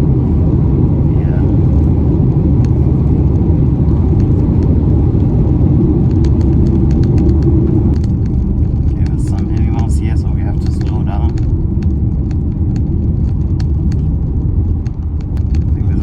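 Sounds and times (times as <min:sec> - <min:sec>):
car engine rumble from cabin: 0:00.0 - 0:16.0
road noise: 0:00.0 - 0:16.0.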